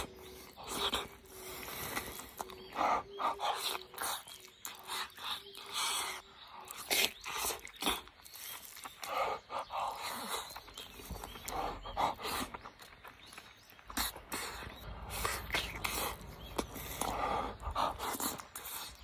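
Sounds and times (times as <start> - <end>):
wet chewing and mouth smacking: 0.0 - 19.0.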